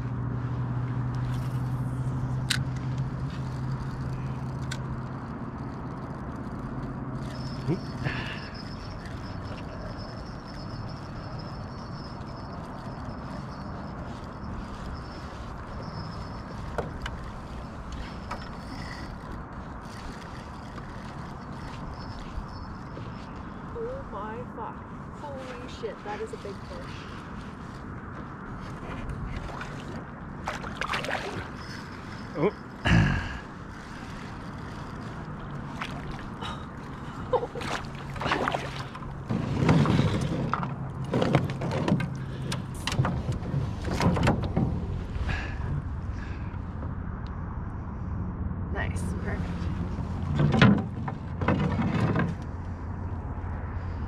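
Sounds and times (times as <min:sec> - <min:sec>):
gear and paddles clattering in canoe: 0:01.0 - 0:46.9, 0:49.6 - 0:52.8.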